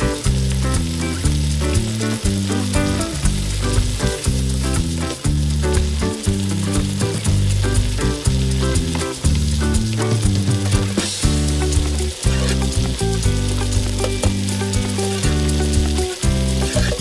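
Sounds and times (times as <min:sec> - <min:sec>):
background music with bass line: 0:00.0 - 0:17.0
food sizzling in a pan: 0:00.0 - 0:17.0.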